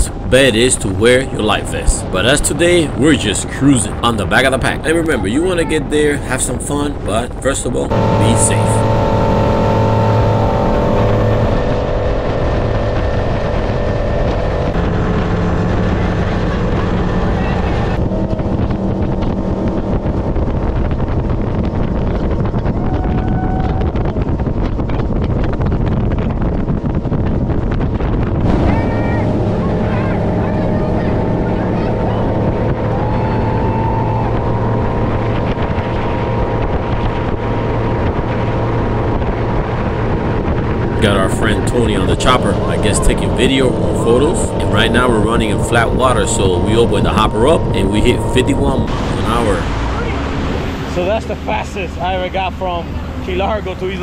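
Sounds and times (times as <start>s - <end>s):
water rushing from hull: 0.0s - 54.0s
wind buffeting microphone: 0.0s - 54.0s
outboard motor running: 7.9s - 54.0s.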